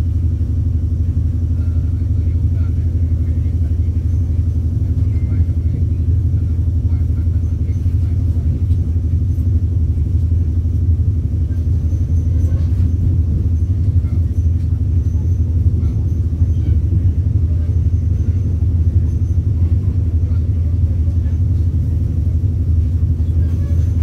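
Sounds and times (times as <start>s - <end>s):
train rumble inside coach: 0.0s - 24.0s.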